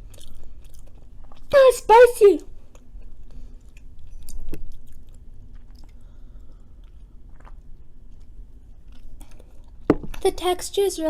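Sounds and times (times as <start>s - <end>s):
chewing fries: 0.0s - 1.5s, 2.6s - 10.2s.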